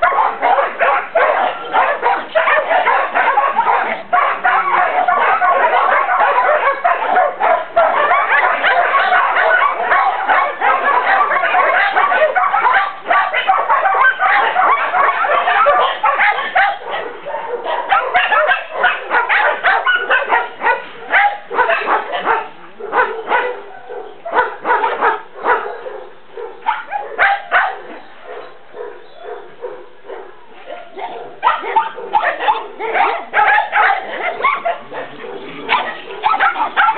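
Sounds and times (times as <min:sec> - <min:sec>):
dogs barking and yipping: 0:00.0 - 0:36.9.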